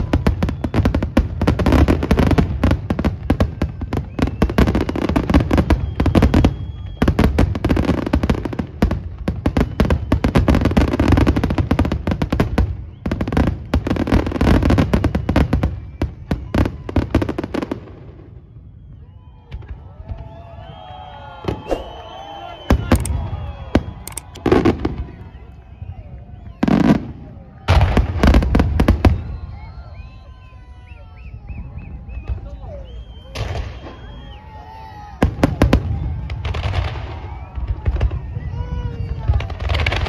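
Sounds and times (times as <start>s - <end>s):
fireworks bangs and crackling: 0.0s - 30.3s, 31.6s - 40.0s.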